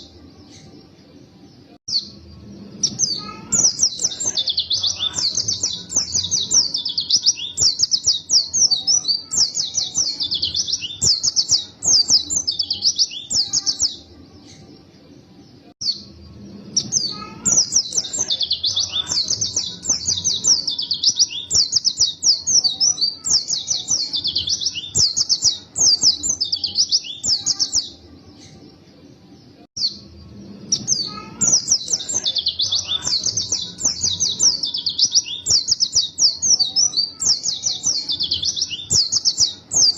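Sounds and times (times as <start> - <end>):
bird twittering chirps: 1.9 - 14.8, 15.8 - 28.7, 29.8 - 39.9.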